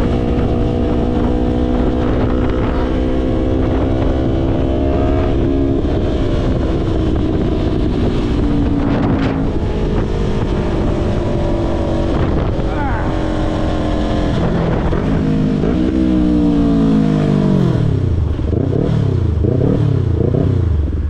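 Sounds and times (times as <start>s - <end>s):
motorcycle engine running: 0.0s - 21.0s
wind rushing on microphone: 0.0s - 21.0s.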